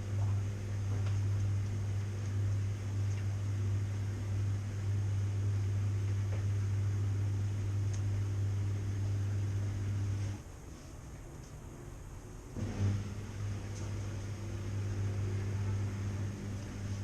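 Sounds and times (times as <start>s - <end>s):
washing machine humming: 0.0s - 10.6s, 11.6s - 17.0s.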